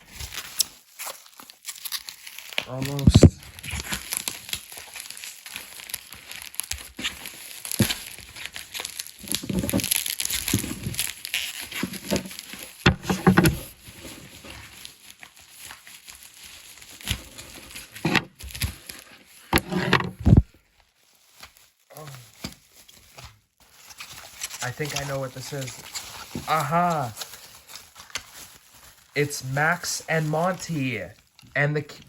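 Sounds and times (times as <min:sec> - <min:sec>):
plastic and cardboard crinkling: 0:00.0 - 0:32.0.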